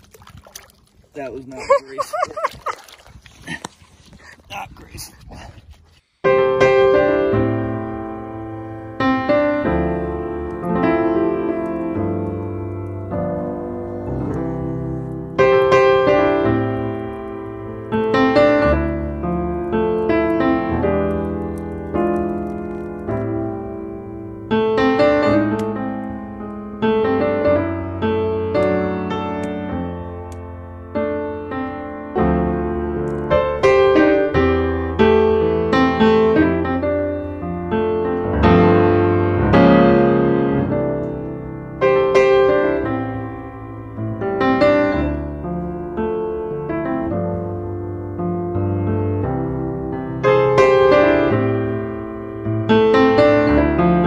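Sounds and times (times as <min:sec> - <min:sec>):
piano music: 0:06.3 - 0:54.0.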